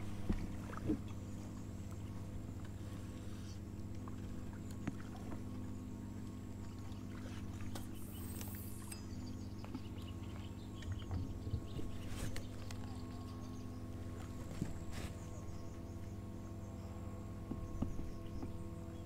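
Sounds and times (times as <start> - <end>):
motorboat engine hum: 0.0 - 19.0.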